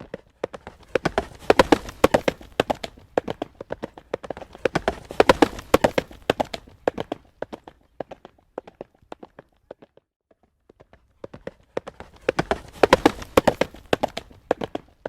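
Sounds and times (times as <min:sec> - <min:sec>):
horse hooves trotting on road: 0:00.0 - 0:15.0.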